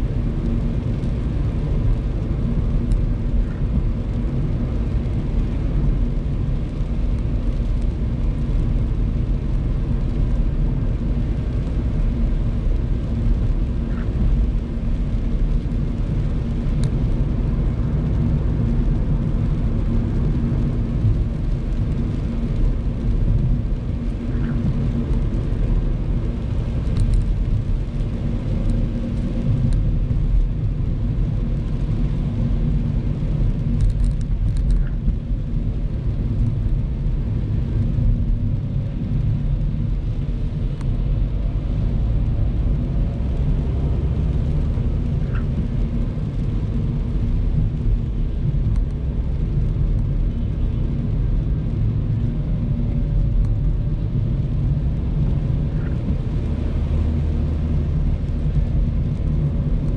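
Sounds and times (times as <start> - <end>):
car engine and road rumble: 0.0 - 59.9
tyres on wet road: 0.0 - 59.9.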